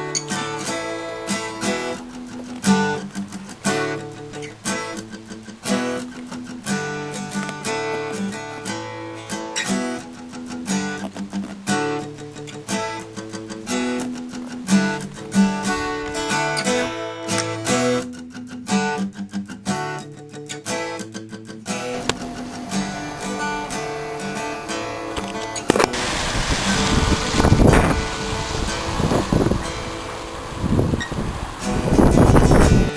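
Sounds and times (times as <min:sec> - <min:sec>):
acoustic guitar plucked and strummed: 0:00.0 - 0:32.9.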